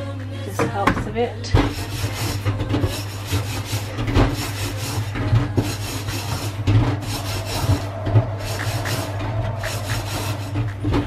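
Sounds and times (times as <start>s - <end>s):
scouring pad scrubbing metal: 1.5s - 11.0s.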